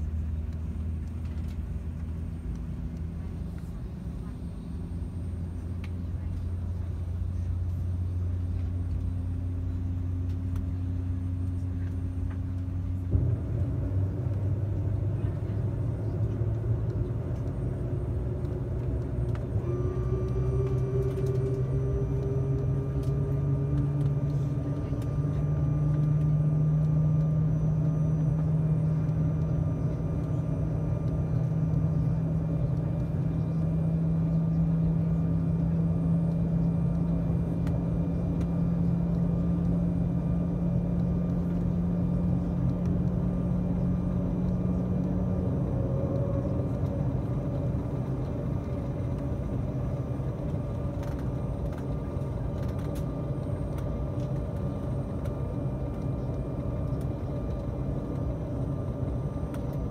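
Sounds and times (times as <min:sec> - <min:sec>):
jet engines humming in cabin: 0:00.0 - 0:59.9
thin engine whine: 0:00.0 - 0:59.9.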